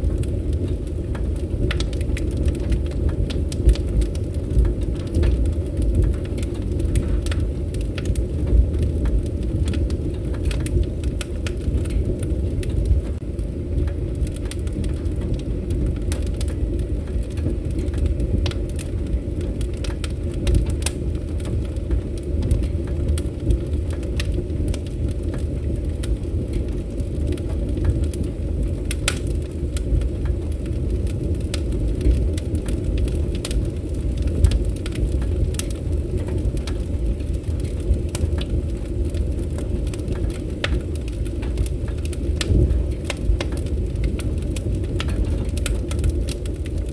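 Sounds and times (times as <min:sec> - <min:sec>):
campfire rumbling: 0:00.0 - 0:46.9
wood crackling and popping: 0:00.0 - 0:46.9.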